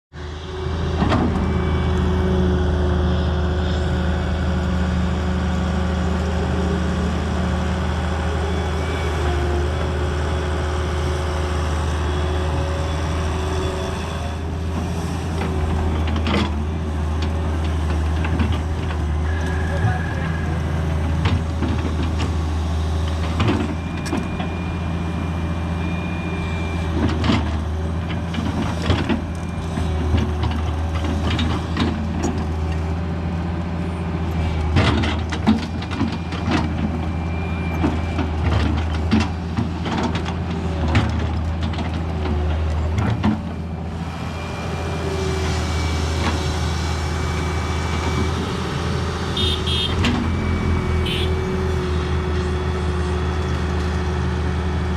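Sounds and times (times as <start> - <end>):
diesel engine running: 0.1 - 54.9.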